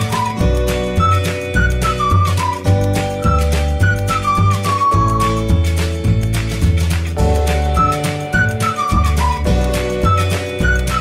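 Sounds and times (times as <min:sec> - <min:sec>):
bass line: 0:00.0 - 0:11.0.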